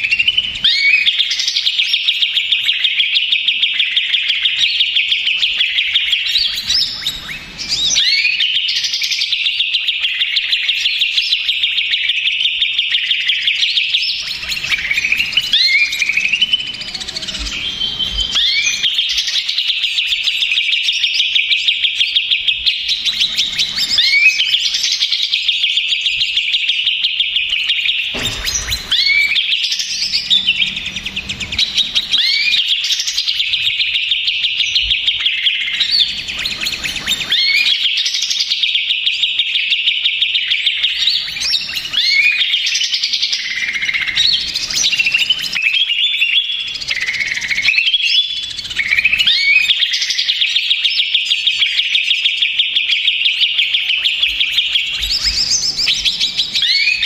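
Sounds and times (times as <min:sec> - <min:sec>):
bird rapid chattering song: 0:00.0 - 0:57.0.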